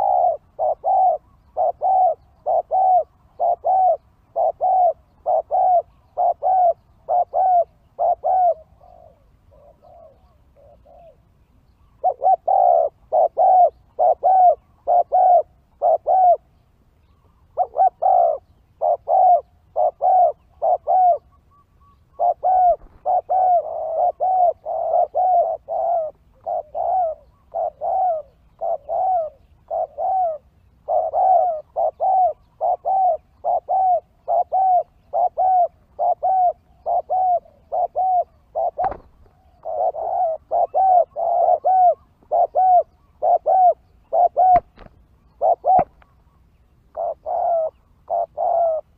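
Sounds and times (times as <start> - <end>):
doves cooing: 0.0 - 48.9.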